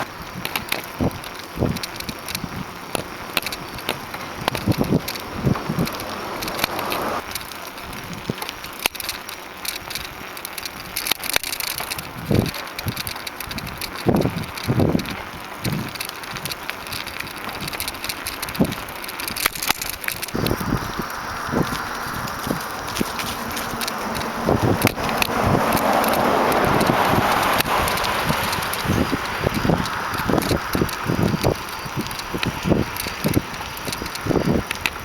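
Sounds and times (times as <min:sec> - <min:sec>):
wind buffeting microphone: 0:00.0 - 0:08.5, 0:11.8 - 0:35.0
bicycle rattling and clicking: 0:00.0 - 0:35.0.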